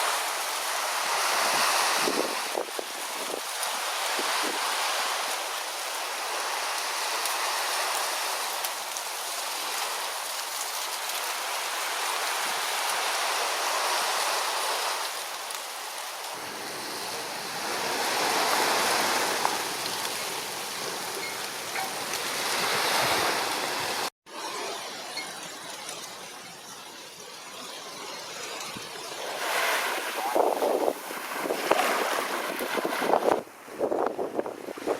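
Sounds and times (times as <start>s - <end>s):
water rushing and washing: 0.0s - 24.8s, 26.0s - 34.9s.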